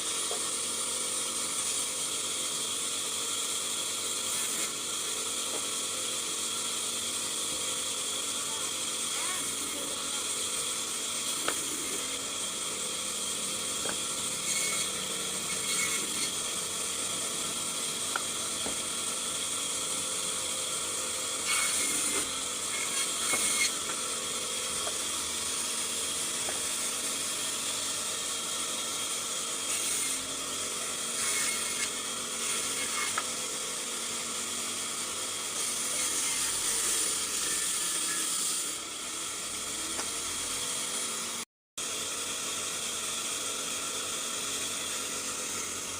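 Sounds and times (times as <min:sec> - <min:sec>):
power saw cutting timber: 0:00.0 - 0:45.9.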